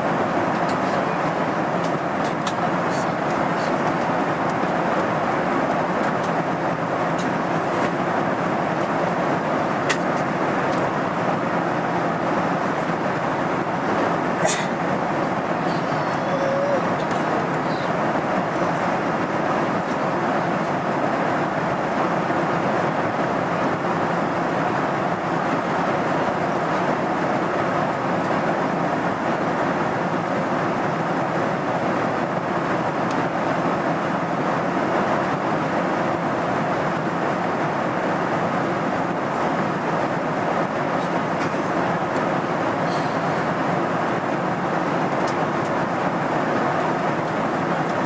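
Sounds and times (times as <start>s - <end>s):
jet airliner cabin noise: 0.0s - 48.0s.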